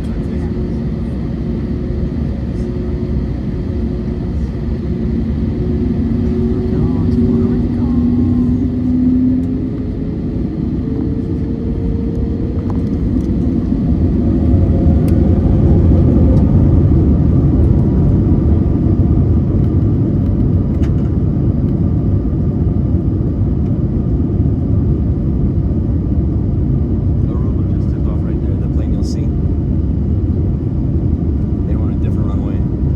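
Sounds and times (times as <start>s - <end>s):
jet engines spooling up in cabin: 0.0s - 32.9s.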